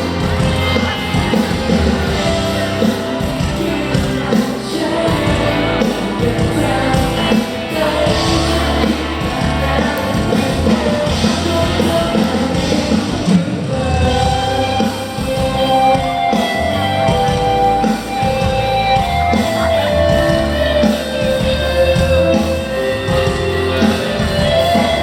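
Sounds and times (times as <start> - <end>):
live rock band with singer: 0.0 - 25.0.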